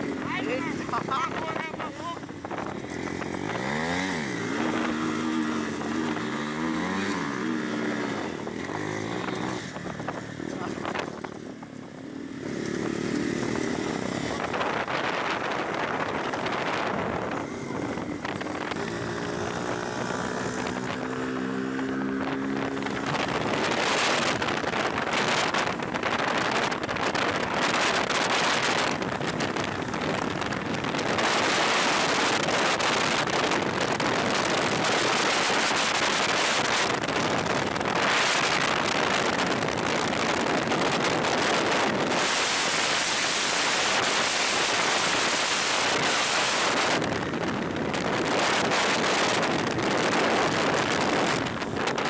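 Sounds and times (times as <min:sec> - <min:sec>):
motorcycle moving: 0:00.0 - 0:52.0
wind rushing over microphone: 0:00.0 - 0:52.0.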